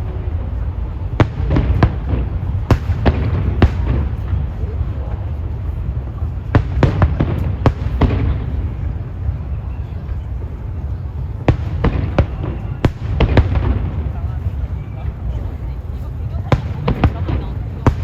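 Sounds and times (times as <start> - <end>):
fireworks bursting with sharp bangs: 0.0 - 18.0
steady low rumble: 0.0 - 18.0.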